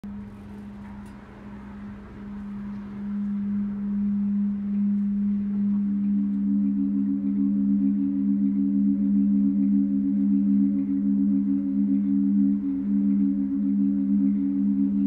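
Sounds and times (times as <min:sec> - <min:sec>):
higher humming tone: 0:00.0 - 0:15.0
wind through tubes humming low tone: 0:00.0 - 0:15.0.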